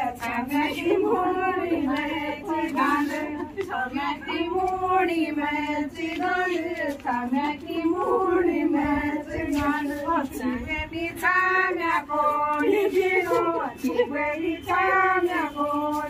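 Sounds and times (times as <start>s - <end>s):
women singing in unison: 0.0s - 16.0s.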